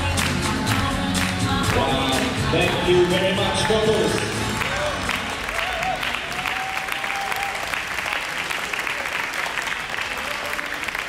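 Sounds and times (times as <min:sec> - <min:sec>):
audience applauding: 0:00.2 - 0:11.0.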